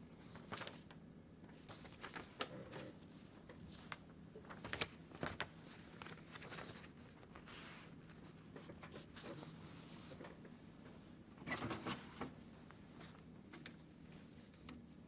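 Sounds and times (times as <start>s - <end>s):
faint clicks and rustles: 0.2s - 15.0s.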